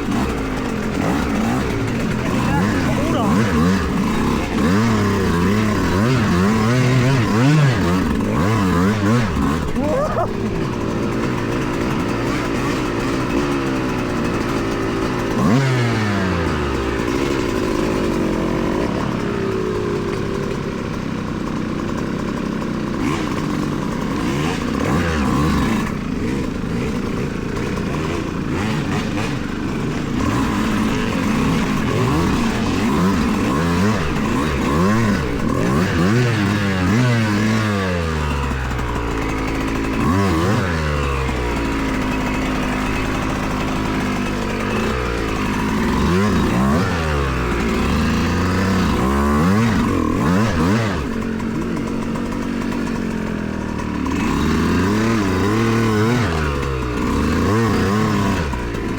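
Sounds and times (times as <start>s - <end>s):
two-stroke dirt bike engine: 0.0s - 58.9s.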